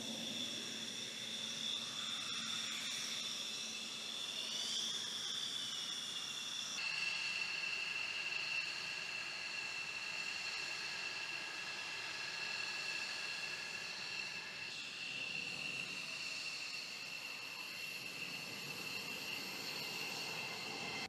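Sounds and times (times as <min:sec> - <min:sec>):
jet engine whining: 0:00.0 - 0:21.0.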